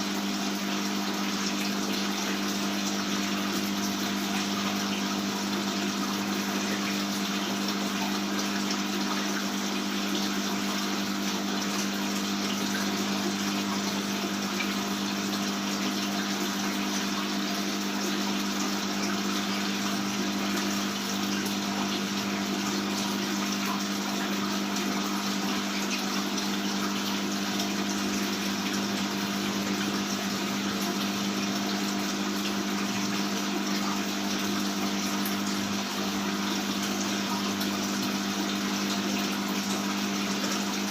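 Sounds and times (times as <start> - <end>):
aquarium pump hum: 0.0 - 40.9
water pouring and splashing: 0.0 - 40.9.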